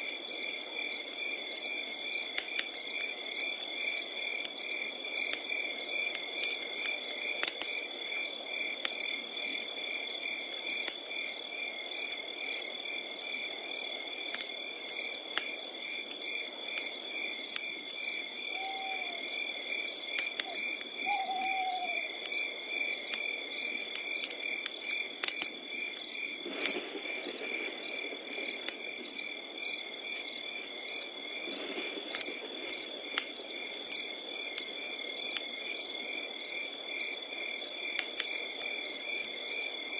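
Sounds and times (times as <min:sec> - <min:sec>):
campfire popping and crackling: 0:00.0 - 0:39.9
insects chirping: 0:00.0 - 0:39.9.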